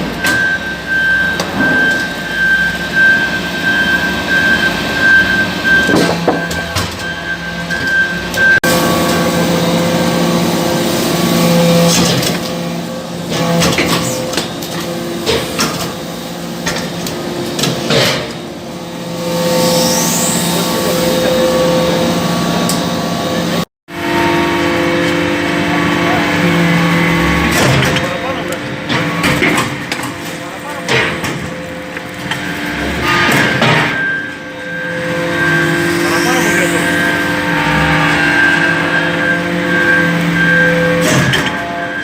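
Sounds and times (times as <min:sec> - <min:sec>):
hydraulic press humming: 0:00.0 - 0:42.0.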